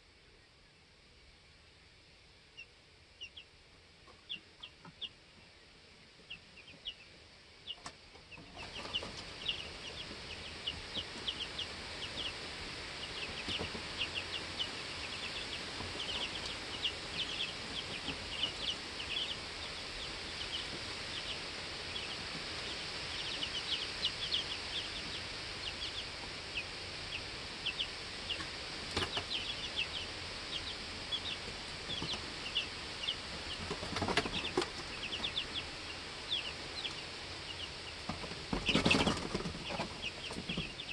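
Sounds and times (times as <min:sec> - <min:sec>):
steady hiss: 0:00.0 - 0:40.9
baby chicks peeping: 0:01.7 - 0:40.9.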